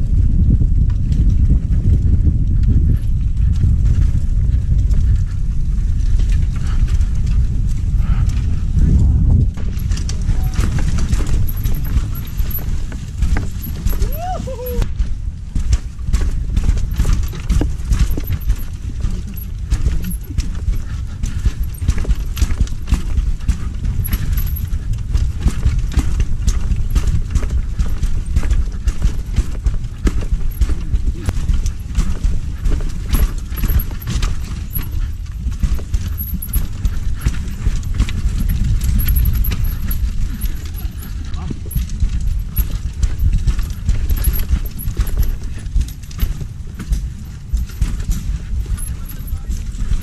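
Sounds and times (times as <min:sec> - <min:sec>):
bike rattling clicks and knocks: 0:00.0 - 0:50.0
mountain bike on rough dirt trail: 0:00.0 - 0:50.0.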